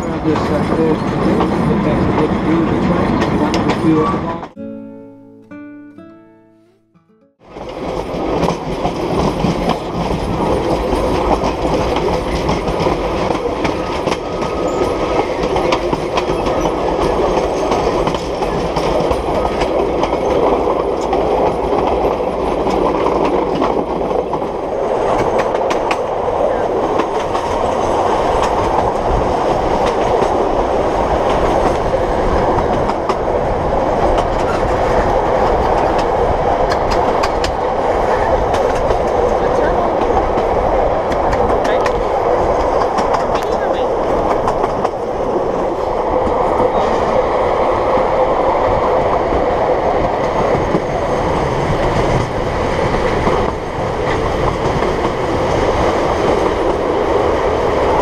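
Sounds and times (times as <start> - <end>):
train wheels rumbling and rattling: 0.0 - 4.6, 7.5 - 58.0.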